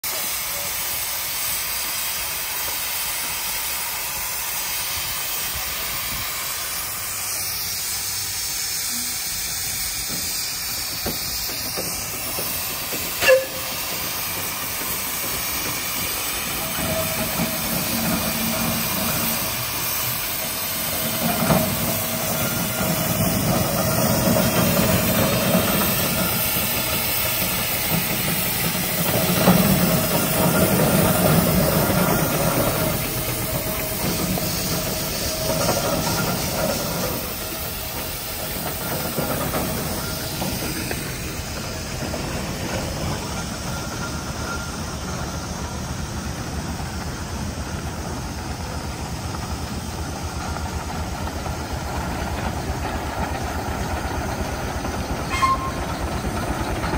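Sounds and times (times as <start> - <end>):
steam hissing: 0.0 - 56.9.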